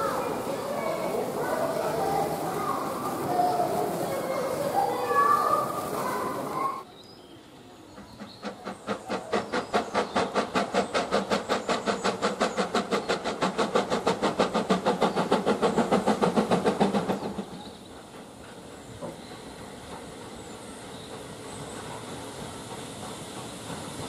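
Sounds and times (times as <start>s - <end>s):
steam locomotive chuffing: 0.0s - 6.9s, 7.7s - 24.0s.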